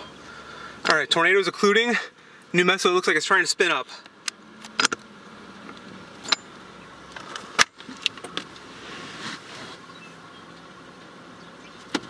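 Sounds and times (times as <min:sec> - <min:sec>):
car cabin background noise: 0:00.0 - 0:12.0.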